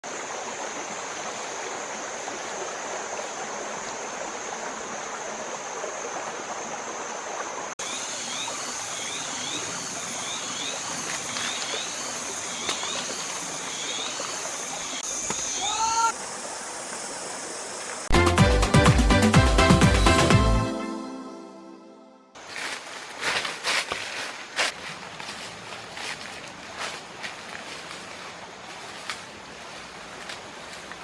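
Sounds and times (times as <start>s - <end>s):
stream water running: 0.0s - 21.4s, 22.4s - 31.0s.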